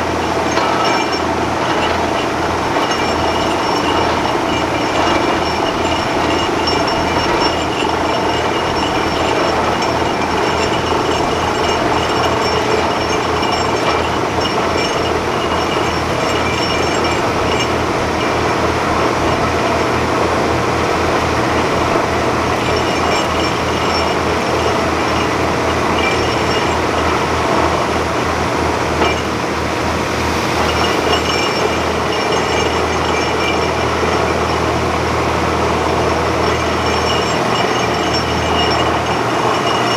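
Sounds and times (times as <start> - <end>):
drilling rig droning and pulsing: 0.0 - 39.9.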